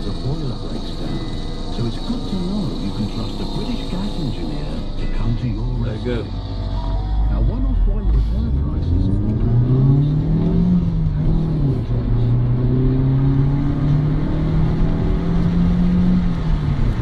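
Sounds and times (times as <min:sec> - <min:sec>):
car engine accelerating: 0:00.0 - 0:17.0
low road rumble: 0:00.0 - 0:17.0.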